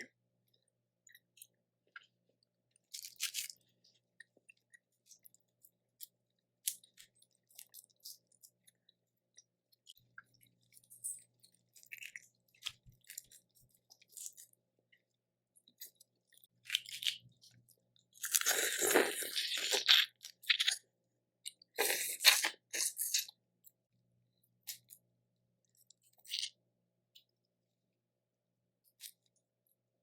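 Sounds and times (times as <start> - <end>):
crunching and chewing: 0.0 - 23.8, 24.6 - 26.6, 28.9 - 29.4.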